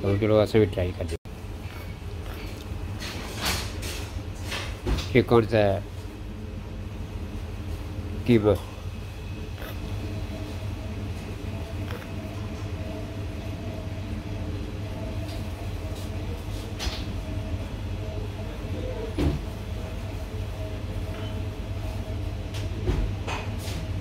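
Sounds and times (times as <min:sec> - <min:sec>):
cafe background hum: 0:00.0 - 0:24.0.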